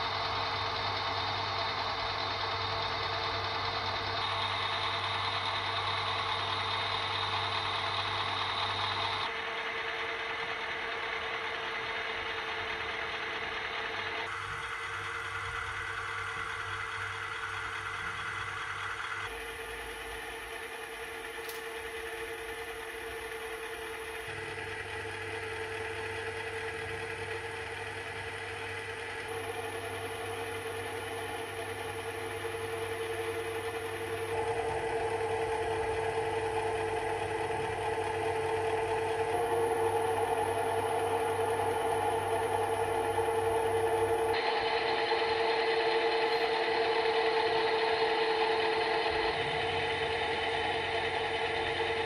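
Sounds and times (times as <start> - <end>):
diesel locomotive idling through speaker: 0.0 - 52.0.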